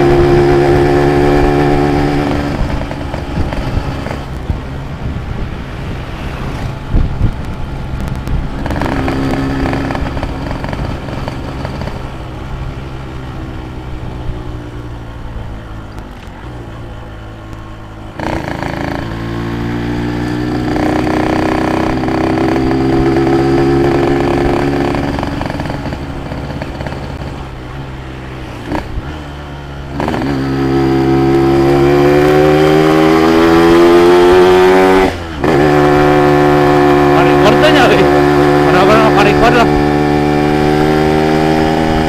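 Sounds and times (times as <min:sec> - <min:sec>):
two-stroke motorcycle engine revving: 0:00.0 - 0:04.6, 0:08.2 - 0:14.3, 0:18.1 - 0:42.0.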